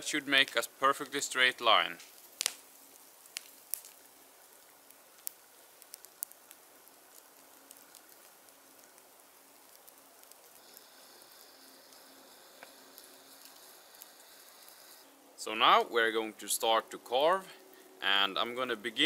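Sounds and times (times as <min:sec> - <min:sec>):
outdoor ambient hiss: 0:00.0 - 0:19.0
wood fire crackling: 0:00.0 - 0:19.0.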